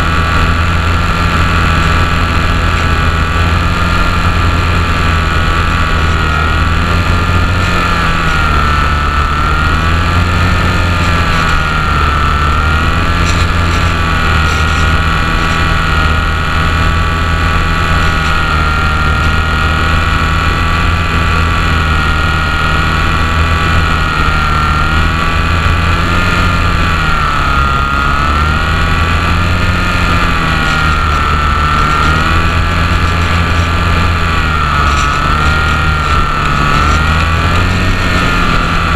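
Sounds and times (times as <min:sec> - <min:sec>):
model plane motor whining: 0:00.0 - 0:38.9.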